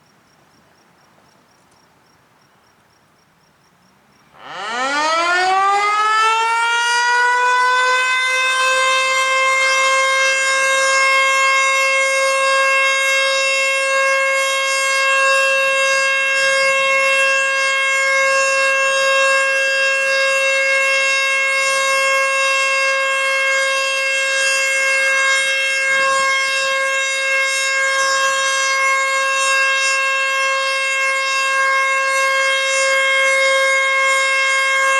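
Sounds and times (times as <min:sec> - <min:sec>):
outdoor warning siren: 0:04.3 - 0:34.9.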